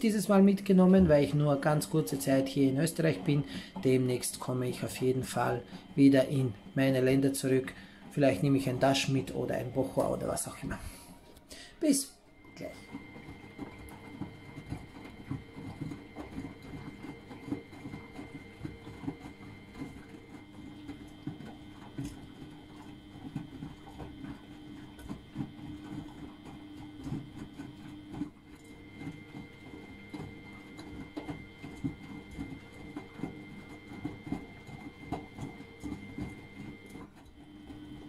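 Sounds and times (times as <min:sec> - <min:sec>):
washing machine drum turning: 0:00.0 - 0:11.1, 0:12.2 - 0:38.0.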